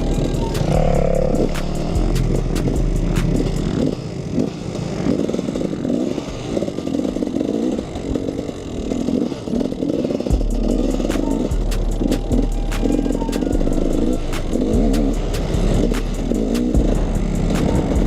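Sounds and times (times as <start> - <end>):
two-stroke motorbike engine revving: 0.0 - 18.0.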